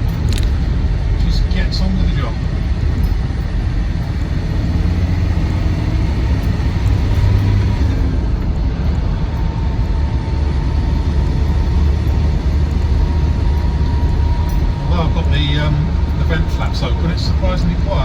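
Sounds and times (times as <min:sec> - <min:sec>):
diesel engine and road noise: 0:00.0 - 0:18.0.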